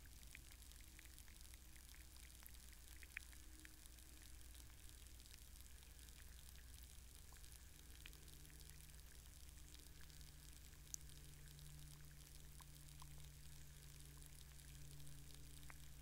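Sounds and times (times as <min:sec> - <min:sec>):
small sharp underwater clicks: 0:00.0 - 0:16.0
steady low hum: 0:00.0 - 0:16.0.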